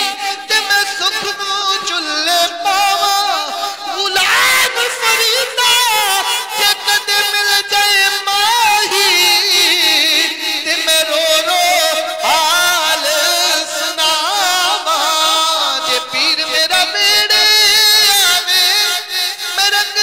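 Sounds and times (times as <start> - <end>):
man singing ornamented notes: 0.0 - 20.0.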